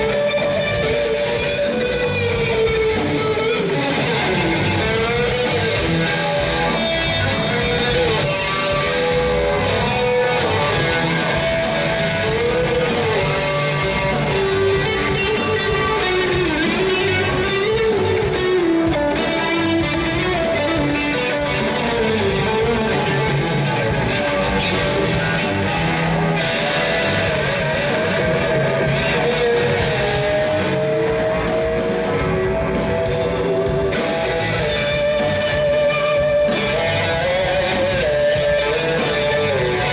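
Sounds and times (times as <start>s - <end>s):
rock music led by guitar: 0.0s - 39.9s.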